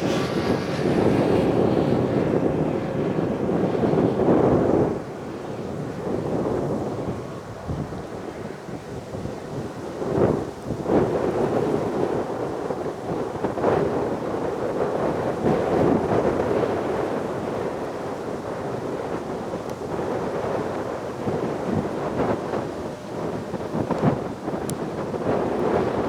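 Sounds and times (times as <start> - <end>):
aircraft engine roar: 0.0 - 26.0
wind buffeting microphone: 0.0 - 26.0.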